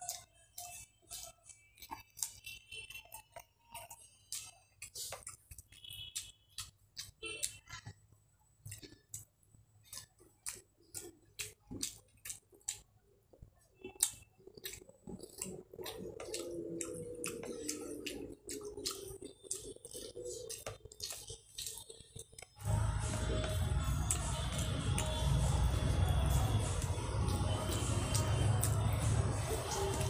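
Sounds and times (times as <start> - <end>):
wet chewing clicks and smacks: 0.0 - 30.0.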